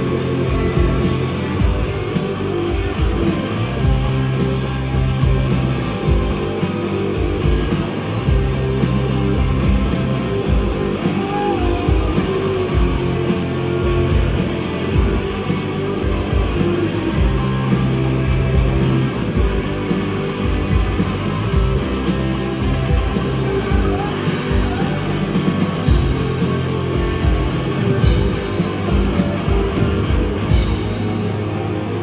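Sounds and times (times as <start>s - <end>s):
electric guitars: 0.0s - 32.0s
steady drum beat: 0.0s - 32.0s.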